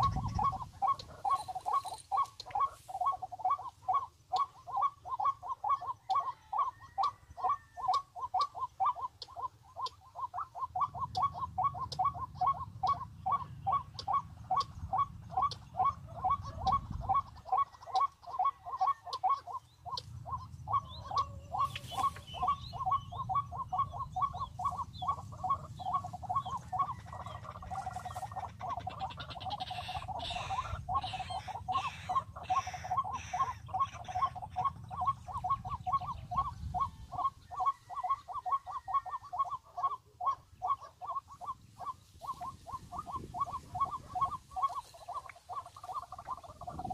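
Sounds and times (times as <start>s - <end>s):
bird calling hoarse notes: 0.0s - 46.9s
higher bird chirps: 0.0s - 46.9s.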